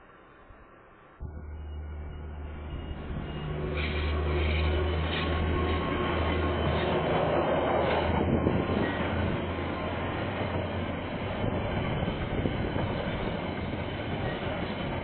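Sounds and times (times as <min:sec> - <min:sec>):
diesel locomotive engine drone: 0:00.0 - 0:15.0
train wheels rumbling on rails: 0:01.2 - 0:15.0.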